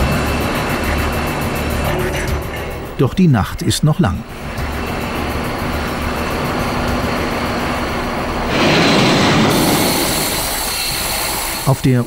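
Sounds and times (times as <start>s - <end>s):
low industrial hum: 0.0s - 11.6s.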